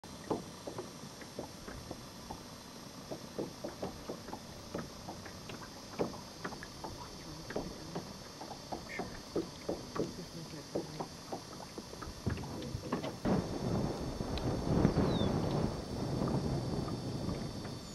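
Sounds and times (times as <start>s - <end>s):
waves lapping against a boat hull: 0.0s - 17.9s.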